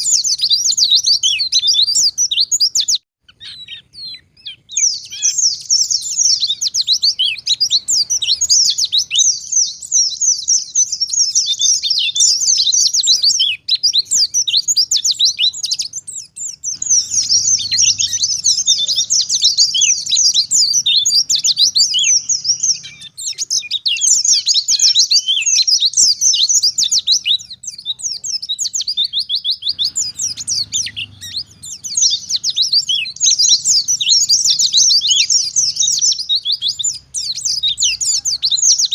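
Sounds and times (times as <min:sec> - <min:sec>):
bird twittering chatter: 0:00.0 - 0:38.9.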